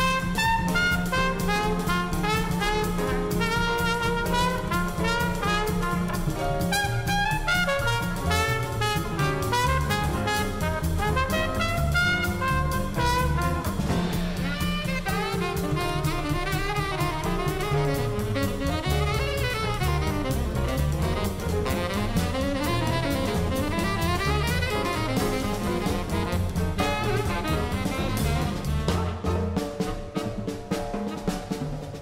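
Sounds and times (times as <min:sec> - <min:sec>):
drum kit beat: 0:00.0 - 0:32.0
jazz horns playing: 0:00.0 - 0:32.0.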